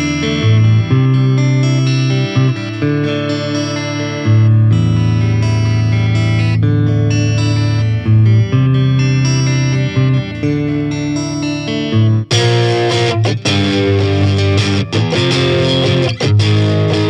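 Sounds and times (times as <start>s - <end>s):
electric guitar chords: 0.0s - 17.0s.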